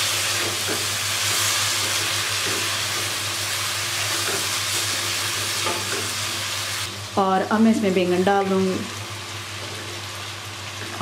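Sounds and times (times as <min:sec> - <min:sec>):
potatoes sizzling in hot oil: 0:00.0 - 0:11.0.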